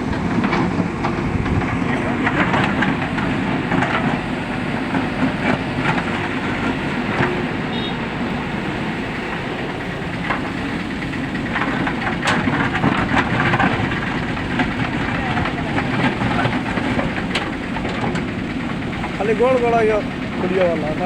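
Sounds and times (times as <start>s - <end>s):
machine knocks and clanks: 0.0s - 7.9s, 9.6s - 21.0s
diesel engine running under load: 0.0s - 21.0s.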